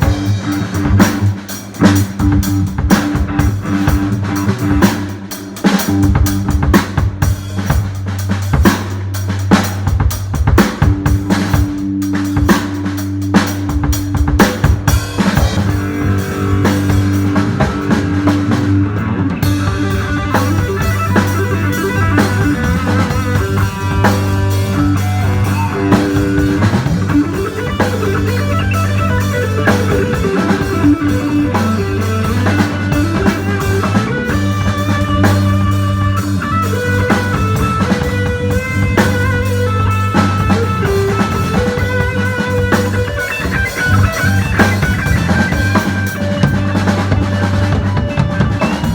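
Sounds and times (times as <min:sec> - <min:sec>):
guitar melody: 0:00.0 - 0:06.7, 0:14.9 - 0:48.9
drum kit beat: 0:00.0 - 0:48.9.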